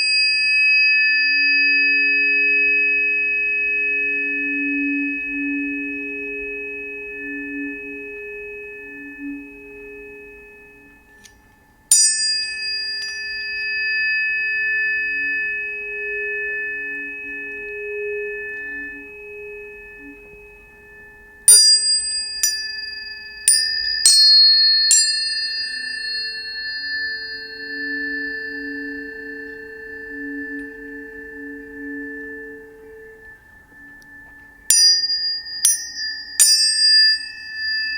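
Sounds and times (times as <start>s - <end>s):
low wavering hum: 0.0s - 37.9s
tuning forks ringing: 0.0s - 37.9s.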